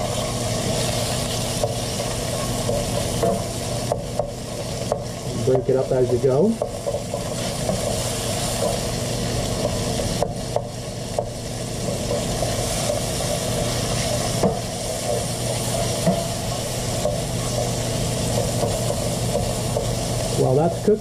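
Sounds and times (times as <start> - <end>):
bacon sizzling in a pan: 0.0 - 21.0
wooden spoon scraping a pan: 0.0 - 21.0.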